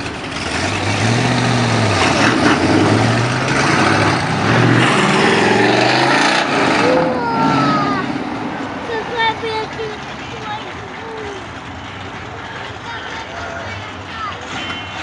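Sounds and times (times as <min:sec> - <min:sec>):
cars revving and accelerating: 0:00.0 - 0:15.0
road noise: 0:00.0 - 0:15.0.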